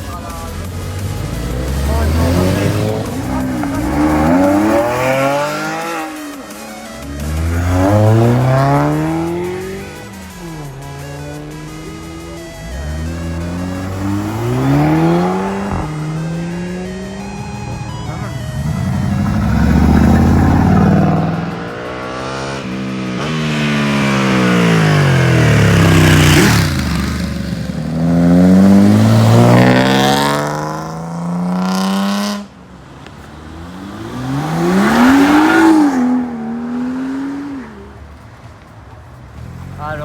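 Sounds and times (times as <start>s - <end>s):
sports car engines revving: 0.0s - 40.0s.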